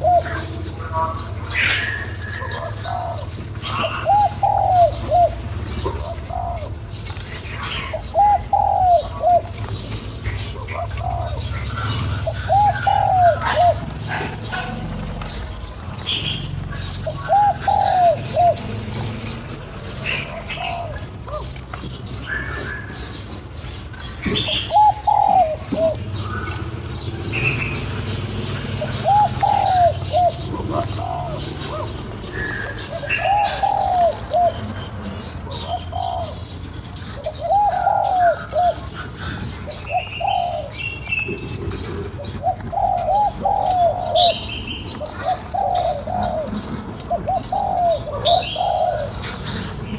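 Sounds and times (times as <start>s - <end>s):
doves cooing: 0.0s - 49.9s
small birds chirping: 0.0s - 49.9s.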